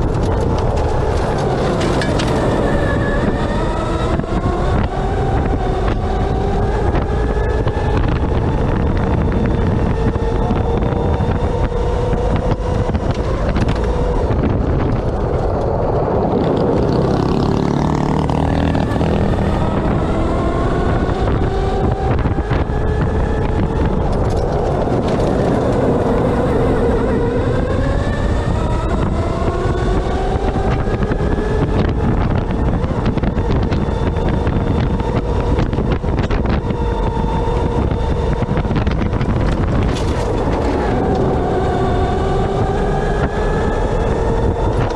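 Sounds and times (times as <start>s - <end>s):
electric buggy motor whine: 0.0s - 44.9s
rumble and rattle from rough ground: 0.0s - 44.9s.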